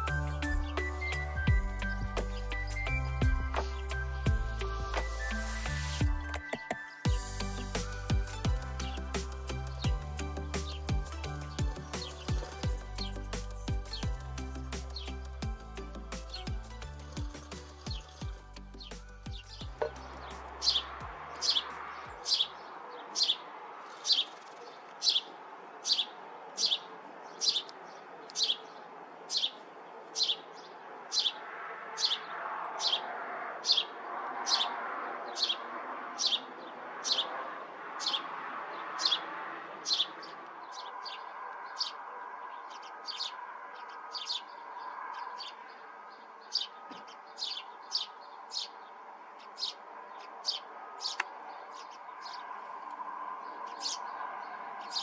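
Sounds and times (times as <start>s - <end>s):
background birds: 0.0s - 55.0s
fledgling birds chirping: 0.0s - 55.0s.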